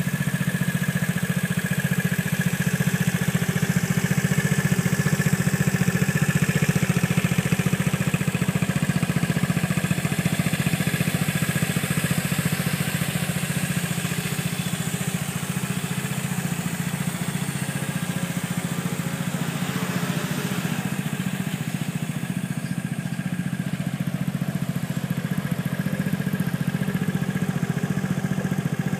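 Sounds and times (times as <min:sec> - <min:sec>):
scooter engine idling: 0:00.0 - 0:28.9.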